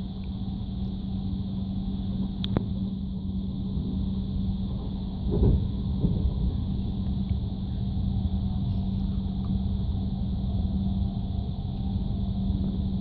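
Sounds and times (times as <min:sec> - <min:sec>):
low rumble with hum: 0:00.0 - 0:13.0
train running at speed: 0:00.0 - 0:13.0.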